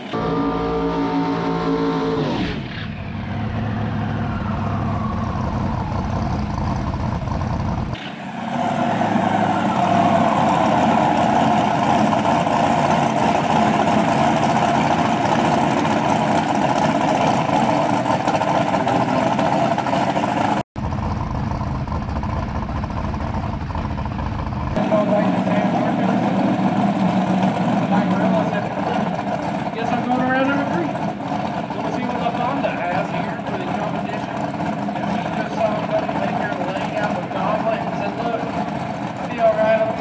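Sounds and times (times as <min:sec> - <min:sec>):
drag car engine running hard: 0:00.0 - 0:40.0.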